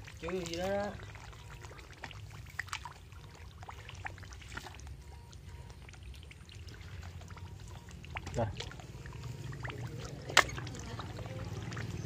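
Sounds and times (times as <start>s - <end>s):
small splashes: 0.0s - 12.0s
water trickling: 0.0s - 12.0s.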